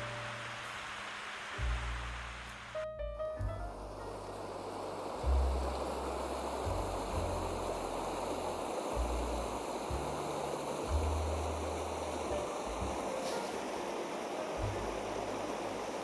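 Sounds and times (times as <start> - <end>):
flowing water rushing: 0.0 - 2.8, 4.1 - 16.0
low rumbles: 0.0 - 14.0, 14.6 - 16.0.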